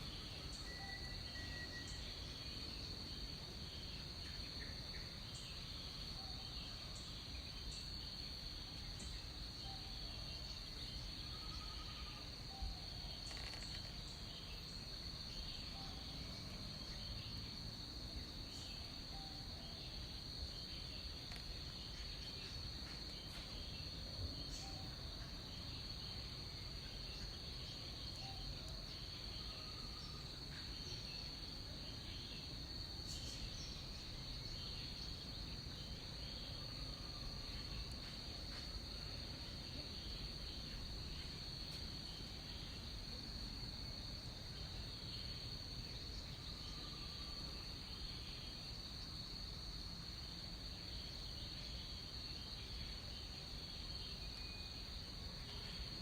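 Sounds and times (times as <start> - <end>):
high-pitched insect trill: 0.0 - 56.0
low background hiss: 0.0 - 56.0.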